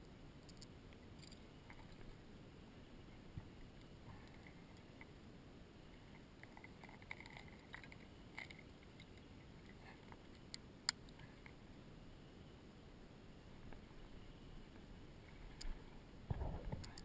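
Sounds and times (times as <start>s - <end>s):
faint clicks and rustles: 0.0s - 2.2s, 3.0s - 11.6s, 13.6s - 17.0s.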